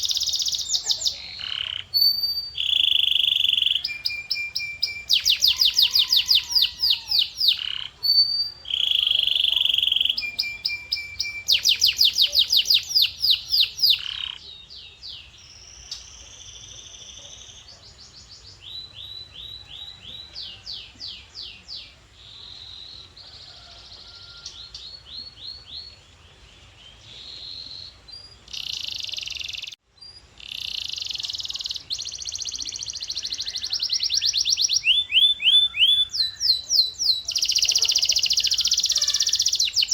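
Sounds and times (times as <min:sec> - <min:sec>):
canary singing in trills: 0:00.0 - 0:39.9.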